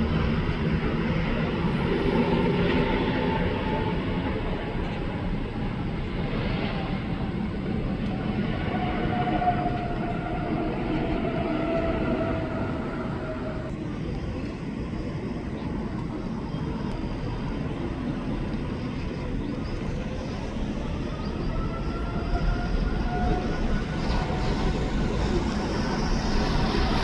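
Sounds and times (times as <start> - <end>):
jet airliner passing: 0.0 - 27.0.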